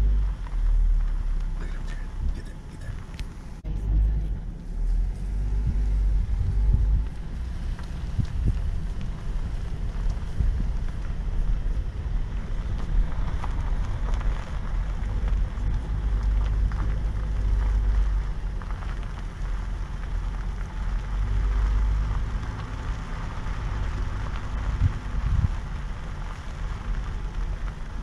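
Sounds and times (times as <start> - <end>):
car cabin low rumble: 0.0 - 28.0
fine crackling noise: 0.0 - 28.0.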